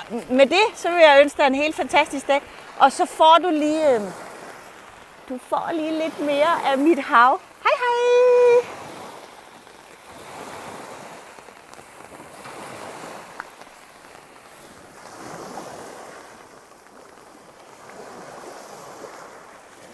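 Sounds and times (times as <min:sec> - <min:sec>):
waves breaking on shingle beach: 0:00.0 - 0:19.9.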